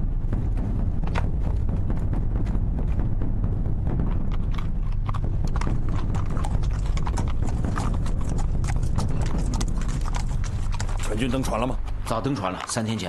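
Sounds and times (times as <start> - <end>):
low steady rumble: 0.0 - 12.3
horse hooves clip-clopping: 1.0 - 13.0.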